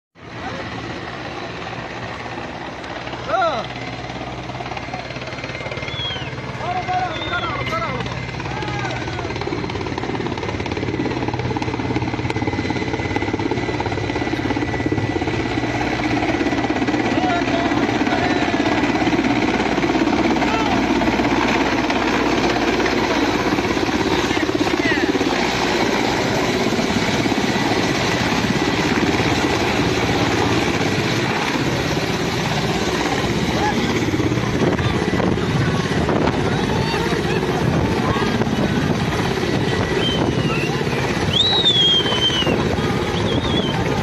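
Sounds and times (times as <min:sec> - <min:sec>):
helicopter engine noise: 0:00.2 - 0:44.0
helicopter rotor beating: 0:00.2 - 0:44.0.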